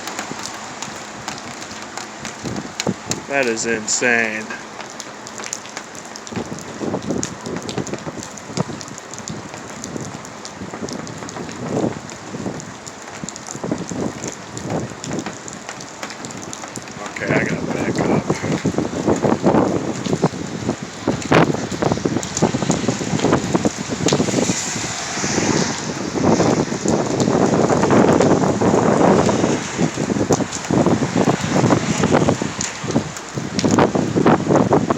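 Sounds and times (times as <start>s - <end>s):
gusty wind buffeting microphone: 0.0s - 5.2s, 6.2s - 34.9s
raindrops hitting close: 0.0s - 34.9s
steady hiss of rain: 0.0s - 34.9s.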